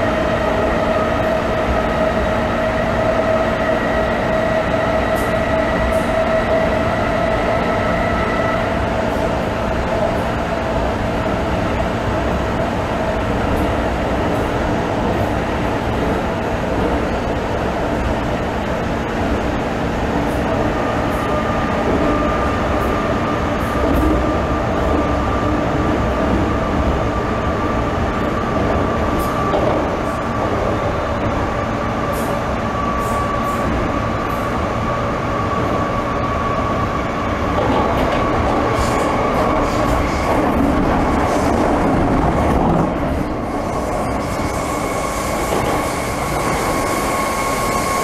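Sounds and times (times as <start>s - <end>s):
train rumbling in tunnel: 0.0s - 48.0s.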